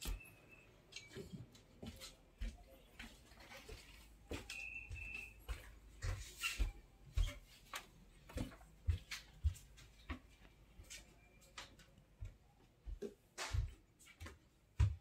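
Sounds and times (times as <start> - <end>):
footsteps on wooden floor: 1.1 - 15.0.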